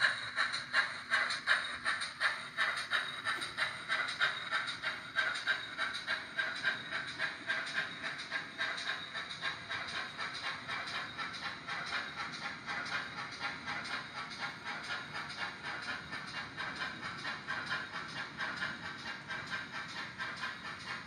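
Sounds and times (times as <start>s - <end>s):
model steam train hissy pulses: 0.0s - 21.0s.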